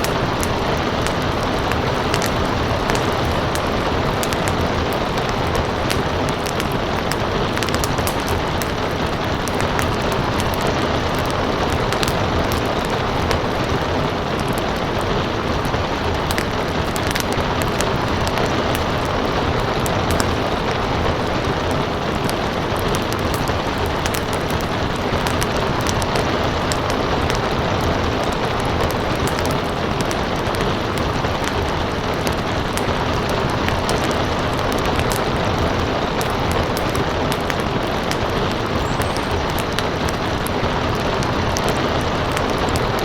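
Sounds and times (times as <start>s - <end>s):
steady rain: 0.0s - 43.0s
wood fire crackling: 0.0s - 43.0s.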